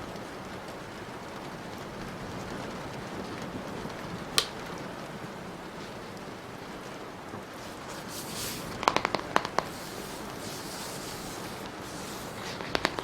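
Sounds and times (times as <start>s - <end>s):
rain patter: 0.0s - 13.0s.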